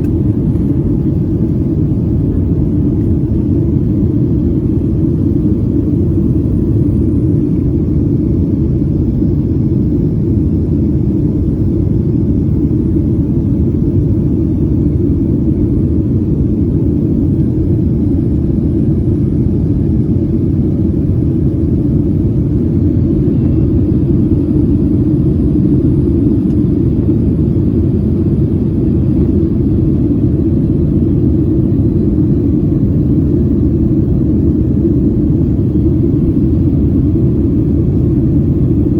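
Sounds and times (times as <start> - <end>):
jet engines roaring in cabin: 0.0 - 38.9.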